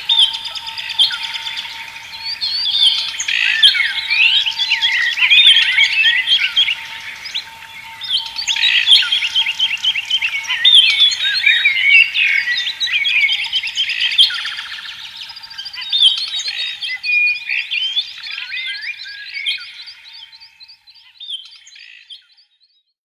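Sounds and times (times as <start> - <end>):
rapid buzzy bird trill: 0.0 - 19.8
songbirds chirping and trilling: 0.0 - 22.6.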